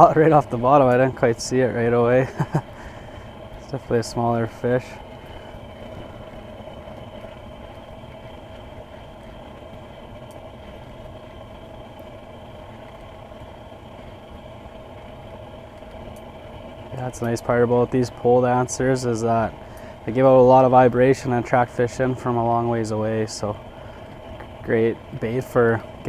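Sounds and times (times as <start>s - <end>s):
engine humming steadily: 0.0s - 26.0s.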